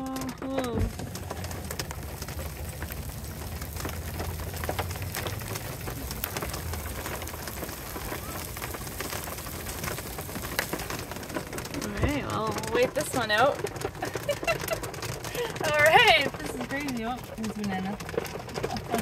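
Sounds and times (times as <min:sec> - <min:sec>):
hail ticking on car: 0:00.0 - 0:19.0
rain hiss: 0:00.6 - 0:19.0.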